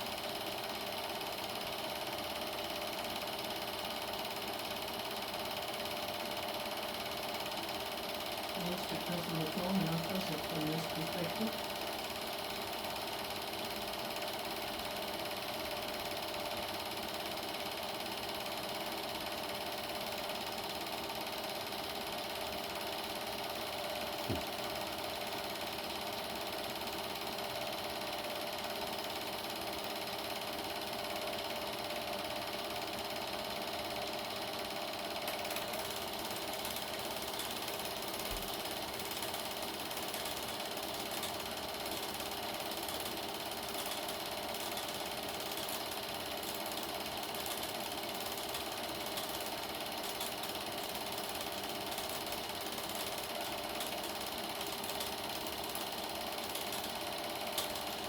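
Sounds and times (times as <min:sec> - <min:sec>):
film projector whirring: 0:00.0 - 0:58.0.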